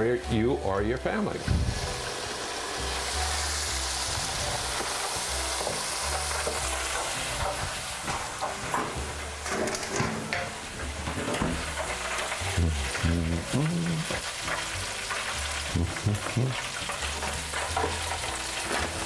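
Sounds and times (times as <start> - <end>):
fish frying in hot oil: 1.2 - 19.0.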